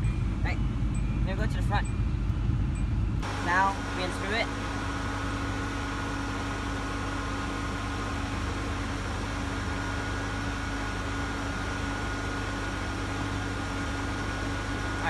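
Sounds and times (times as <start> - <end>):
air conditioning hum: 0.0 - 15.0
car engine idling: 0.0 - 15.0.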